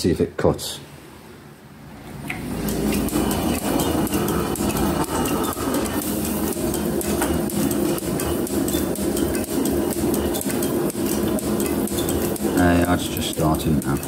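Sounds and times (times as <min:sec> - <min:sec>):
metal planer drive humming: 0:02.3 - 0:14.0.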